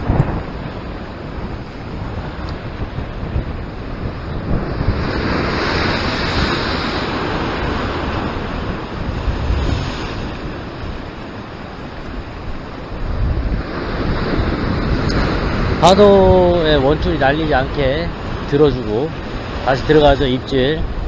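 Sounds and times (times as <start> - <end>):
surf foaming over rocks: 0.0 - 21.0
wind buffeting microphone: 0.0 - 21.0.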